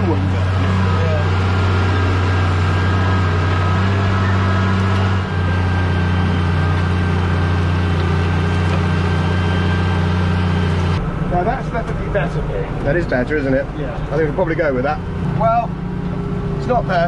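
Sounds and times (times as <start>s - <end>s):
tractor engine under load: 0.0s - 17.0s.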